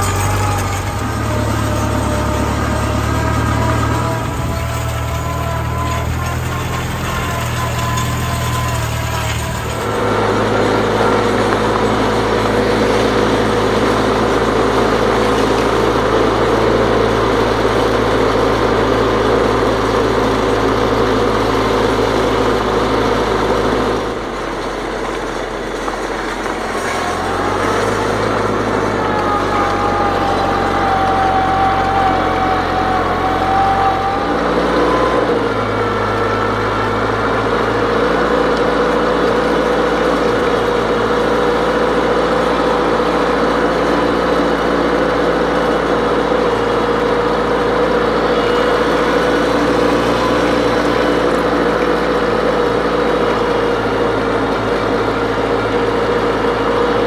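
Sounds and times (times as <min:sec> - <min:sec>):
harrow dragging over gravel: 0:00.0 - 0:57.0
tractor engine running: 0:00.0 - 0:57.0.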